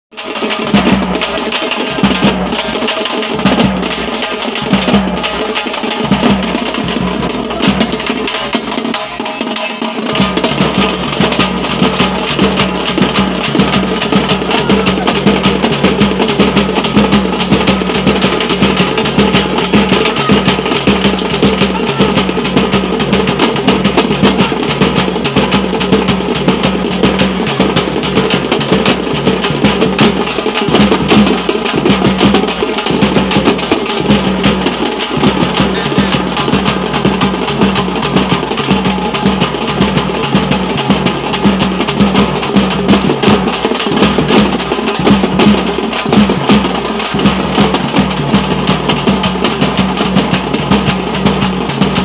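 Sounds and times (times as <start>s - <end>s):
group of drums beaten with sticks: 0.1s - 52.0s.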